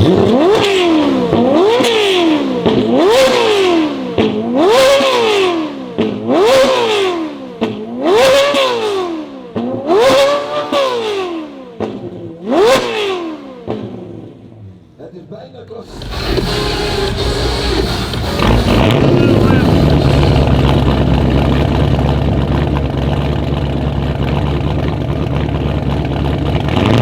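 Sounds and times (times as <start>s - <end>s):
car engine revving: 0.0s - 14.1s, 15.8s - 27.0s.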